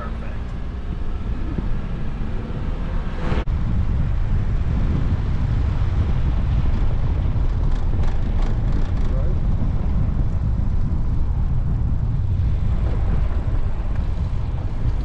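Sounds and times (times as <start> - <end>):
vehicle rumble on dirt road: 0.0 - 15.0.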